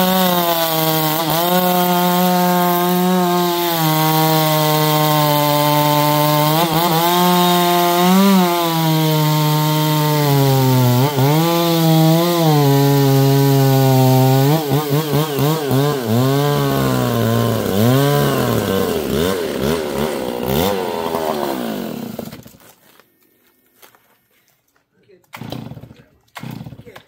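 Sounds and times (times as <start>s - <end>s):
chainsaw cutting wood: 0.0s - 23.0s, 25.2s - 27.0s.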